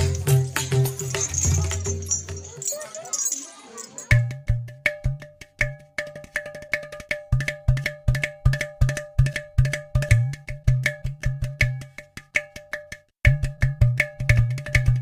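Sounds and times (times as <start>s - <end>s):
percussion background music: 0.0s - 15.0s.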